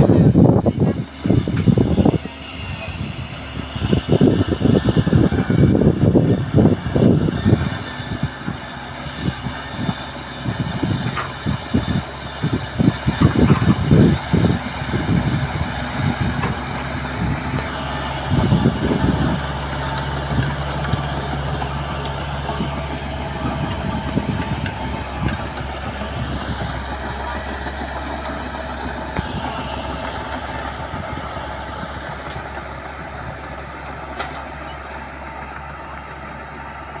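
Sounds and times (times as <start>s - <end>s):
bulldozer diesel engine drone: 0.0s - 37.0s.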